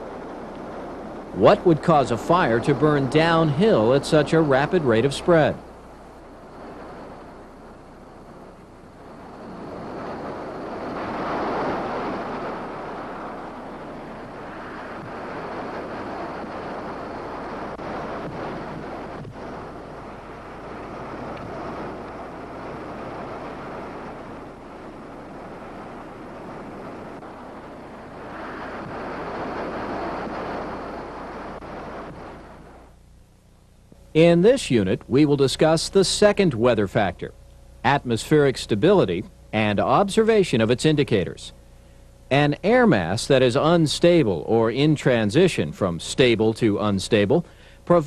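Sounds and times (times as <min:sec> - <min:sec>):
gusty wind: 0:00.0 - 0:48.0.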